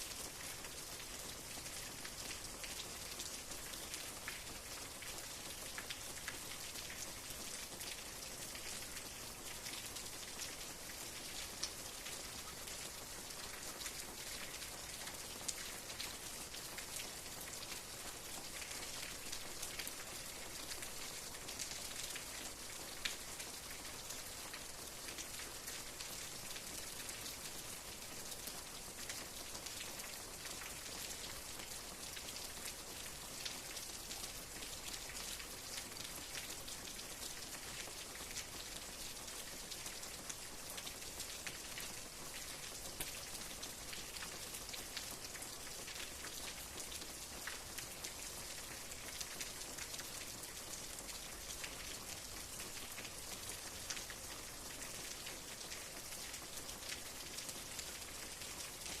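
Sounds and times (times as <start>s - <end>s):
steady rain hiss: 0.0s - 59.0s
raindrops ticking on surface: 0.2s - 59.0s.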